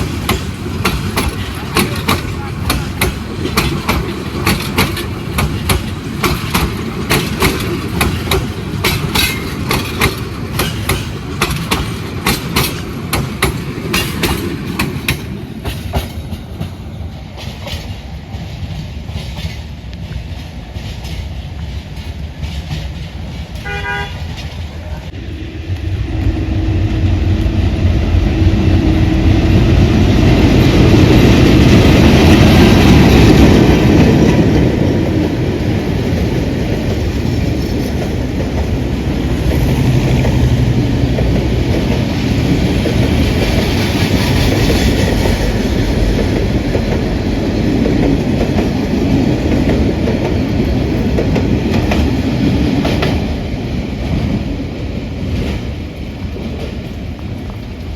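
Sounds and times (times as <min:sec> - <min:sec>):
train wheels clattering over rail joints: 0:00.0 - 0:24.7, 0:30.1 - 0:57.9.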